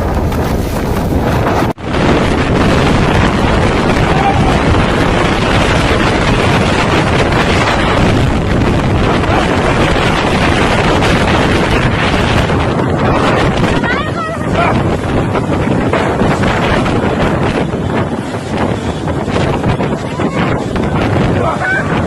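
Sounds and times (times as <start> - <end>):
violent wind buffeting microphone: 0.0 - 22.0.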